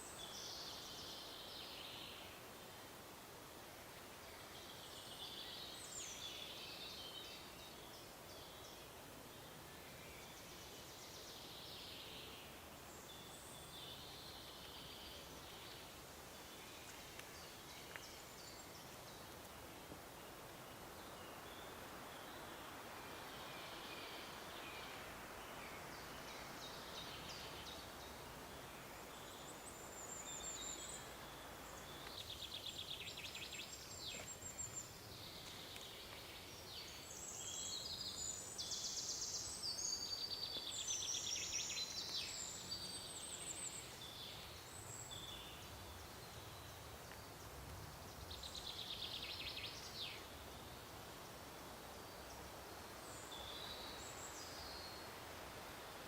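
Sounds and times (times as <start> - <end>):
small birds singing: 0.0 - 2.8, 4.2 - 55.3
steady background hiss: 0.0 - 56.0.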